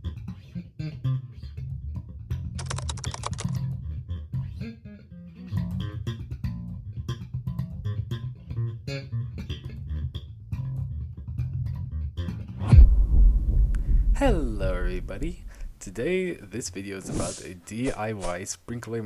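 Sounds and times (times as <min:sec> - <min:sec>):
plucked bass guitar run: 0:00.0 - 0:02.6, 0:03.6 - 0:16.5.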